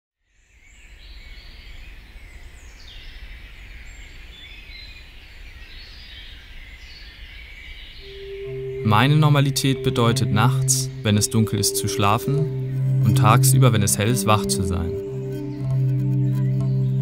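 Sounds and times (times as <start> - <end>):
small birds chirping: 0.4 - 17.0.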